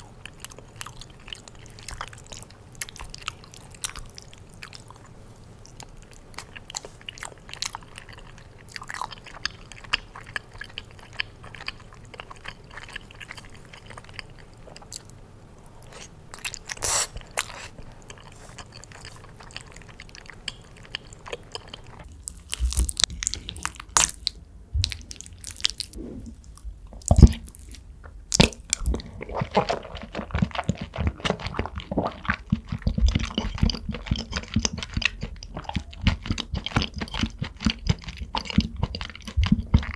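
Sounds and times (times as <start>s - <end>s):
close chewing and biting: 0.0s - 15.2s, 15.8s - 39.9s.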